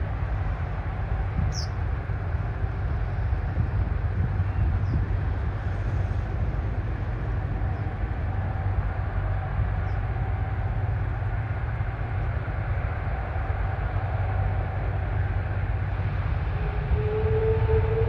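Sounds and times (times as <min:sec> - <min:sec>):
jet engine rumble with whine: 0:00.0 - 0:18.0.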